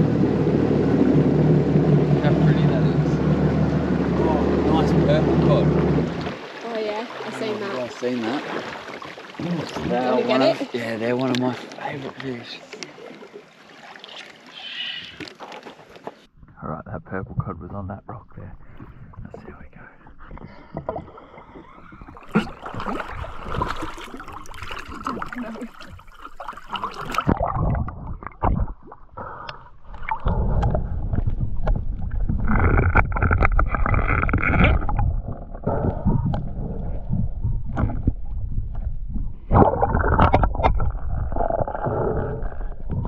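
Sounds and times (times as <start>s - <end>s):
muffled underwater sloshing: 0.0s - 16.3s, 18.3s - 43.0s
water splashing: 0.0s - 16.3s, 18.6s - 43.0s
water rumbling against microphone: 0.0s - 43.0s.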